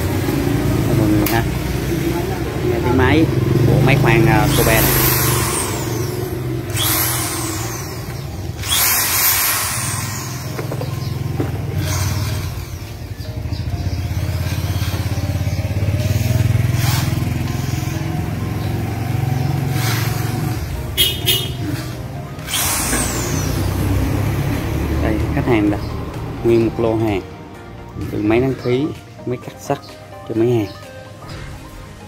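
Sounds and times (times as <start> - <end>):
electric drill motor revving: 0.0 - 25.8.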